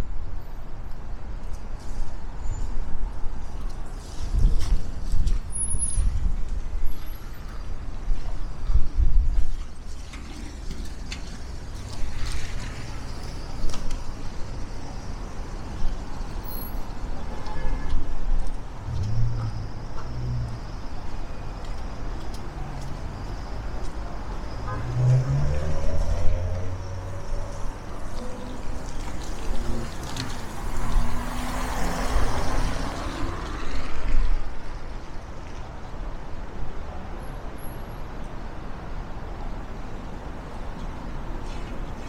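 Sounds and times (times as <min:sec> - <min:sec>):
cars and buses passing: 0:00.0 - 0:42.0.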